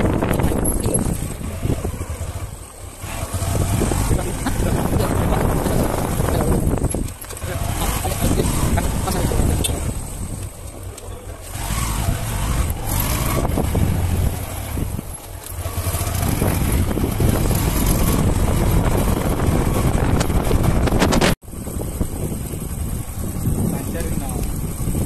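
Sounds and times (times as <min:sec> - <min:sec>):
wind rumble on microphone: 0:00.0 - 0:10.6, 0:11.6 - 0:25.0
motorcycle engine running: 0:00.0 - 0:25.0.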